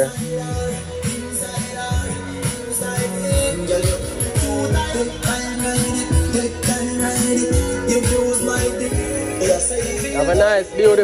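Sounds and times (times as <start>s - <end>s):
music over loudspeaker: 0.0s - 11.0s.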